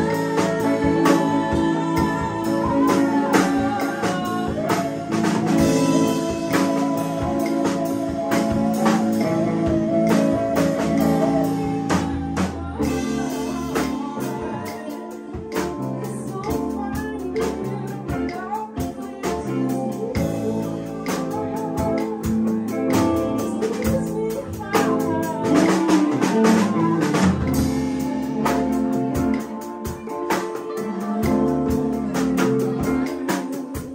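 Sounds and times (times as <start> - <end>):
drums and percussion: 0.0 - 33.9
guitar: 0.0 - 33.9
person singing: 0.0 - 33.9.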